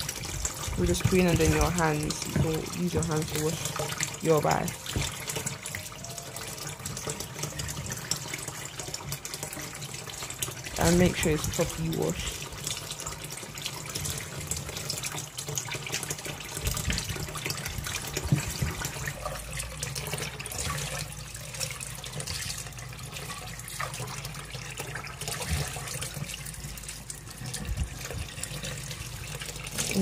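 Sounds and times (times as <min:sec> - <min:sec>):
tap water running into pot: 0:00.0 - 0:30.0.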